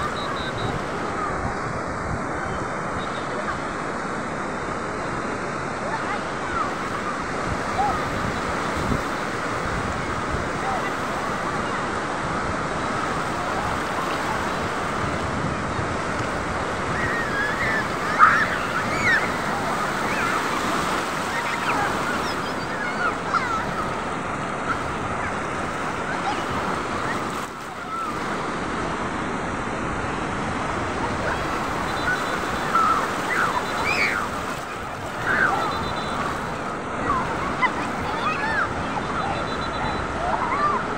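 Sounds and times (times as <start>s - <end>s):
sea surf washing over sand: 0.0s - 40.9s.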